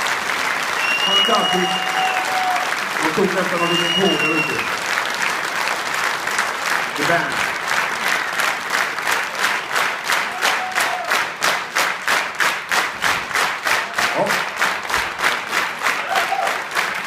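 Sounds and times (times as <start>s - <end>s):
audience clapping in time: 0.0s - 17.0s.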